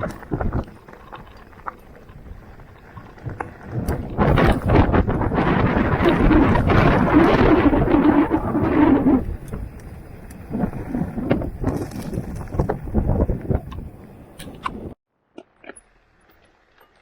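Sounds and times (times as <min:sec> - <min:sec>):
bike knocking over bumps: 0:00.0 - 0:15.0
wind rush on microphone: 0:00.0 - 0:15.0
bike rattling: 0:00.0 - 0:17.0.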